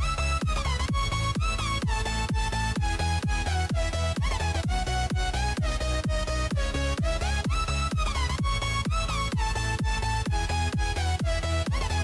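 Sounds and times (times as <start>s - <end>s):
kick drum: 0.0s - 12.0s.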